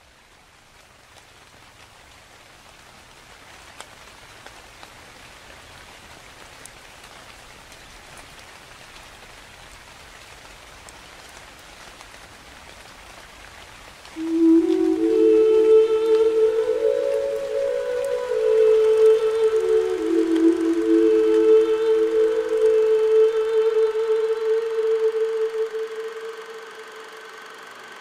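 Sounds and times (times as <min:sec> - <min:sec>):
rain falling into puddle: 0:00.0 - 0:23.4.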